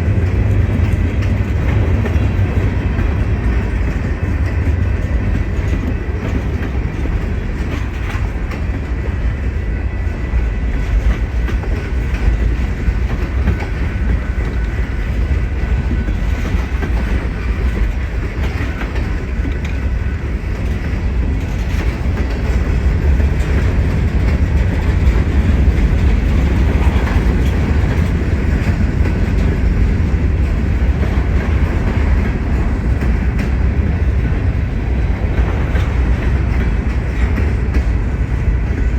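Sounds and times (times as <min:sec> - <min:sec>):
heavy train rumble: 0:00.0 - 0:38.9
train wheels clacking: 0:00.0 - 0:38.9.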